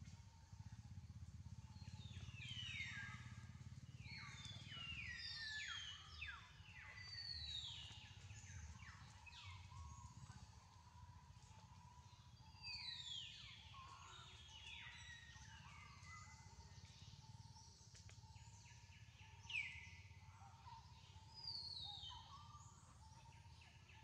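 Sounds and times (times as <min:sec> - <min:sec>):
faint low rumble: 0:00.0 - 0:21.8.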